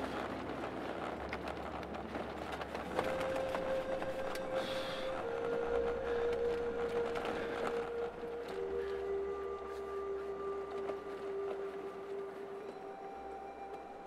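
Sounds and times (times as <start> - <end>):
faint clicks: 0.0 - 14.0
wind noise on microphone: 0.0 - 14.0.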